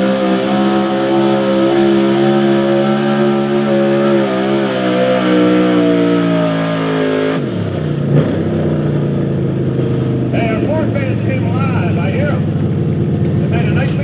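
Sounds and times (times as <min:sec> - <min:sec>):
truck engine revving under load: 0:00.0 - 0:14.0.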